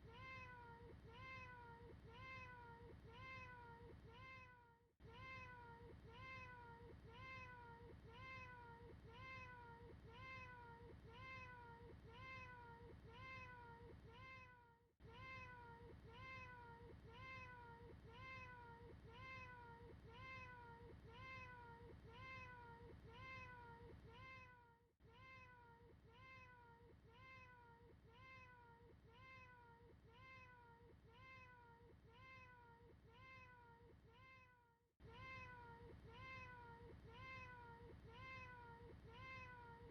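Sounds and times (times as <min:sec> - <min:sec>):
faint cat meows: 0:00.0 - 0:39.9.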